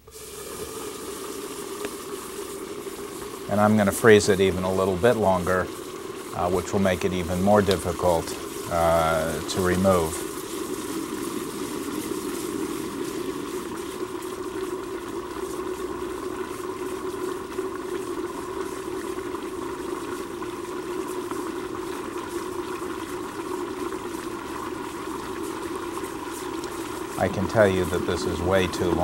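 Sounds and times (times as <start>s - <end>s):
liquid nitrogen bubbling hiss: 0.0s - 29.0s.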